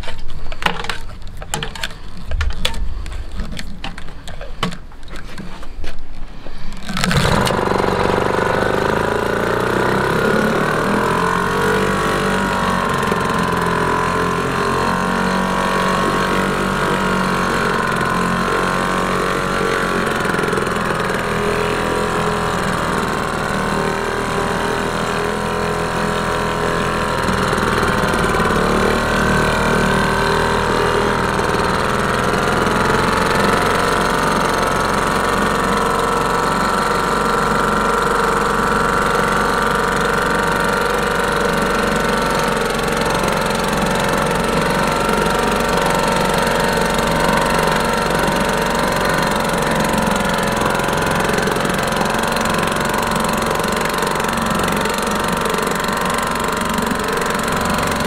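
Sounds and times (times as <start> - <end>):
propeller churning water: 6.6 - 58.0
two-stroke outboard motor running: 6.7 - 58.0.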